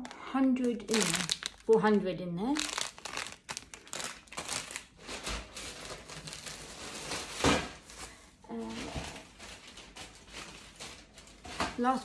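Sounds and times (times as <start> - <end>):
shopping items rustling and clattering: 0.0 - 1.9, 2.6 - 12.0.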